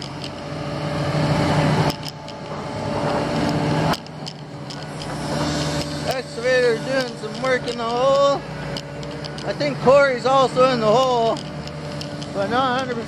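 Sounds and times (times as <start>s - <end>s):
construction machinery diesel engines: 0.0s - 13.0s.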